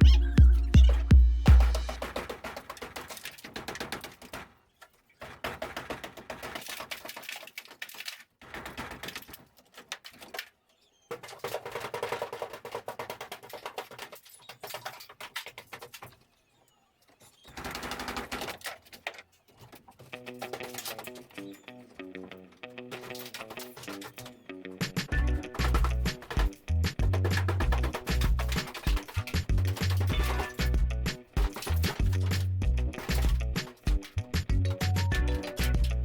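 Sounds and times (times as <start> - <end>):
ceiling boards clattering down: 1.8 - 16.3, 17.4 - 35.0.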